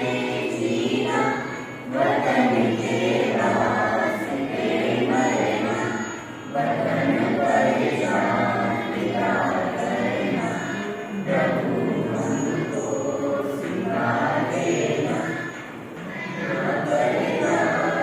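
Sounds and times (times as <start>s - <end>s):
choir singing in unison: 0.0s - 18.0s.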